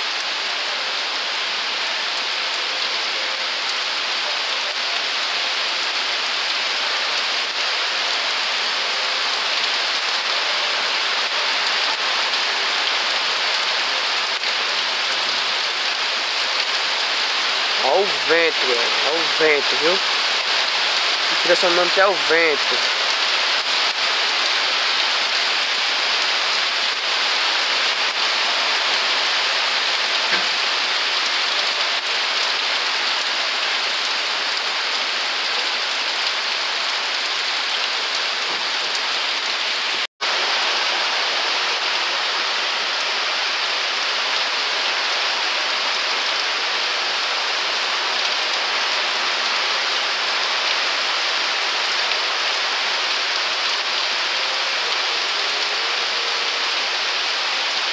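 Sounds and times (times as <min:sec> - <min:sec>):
heavy rain on leaves: 0:00.0 - 0:57.9.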